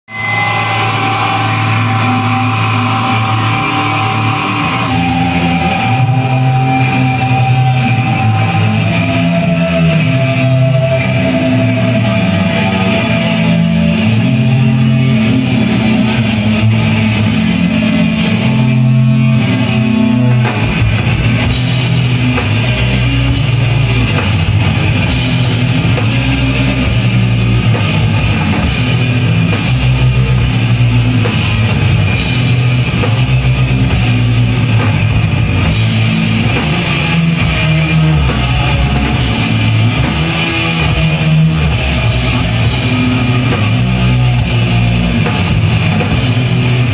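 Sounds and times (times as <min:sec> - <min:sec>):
drums: 0:00.0 - 0:46.9
rock music with guitar: 0:00.1 - 0:46.9.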